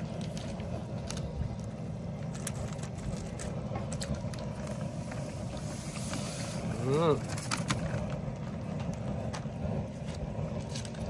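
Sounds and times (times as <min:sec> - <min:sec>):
propane burner roaring: 0:00.0 - 0:11.0.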